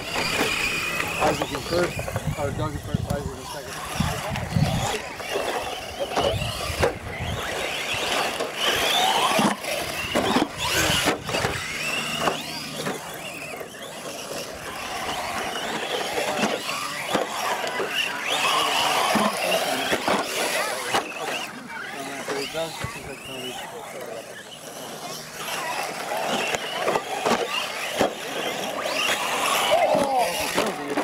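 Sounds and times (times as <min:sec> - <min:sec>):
rc truck motors whining: 0:00.0 - 0:31.0.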